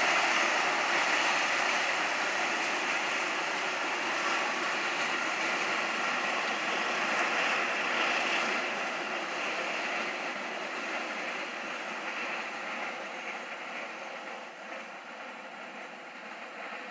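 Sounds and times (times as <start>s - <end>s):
distant train rumbling: 0.0s - 16.9s.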